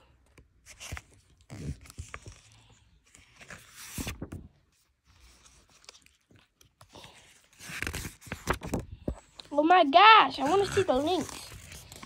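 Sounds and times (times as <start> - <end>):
book pages rustling: 0.1 - 9.6, 10.3 - 12.0.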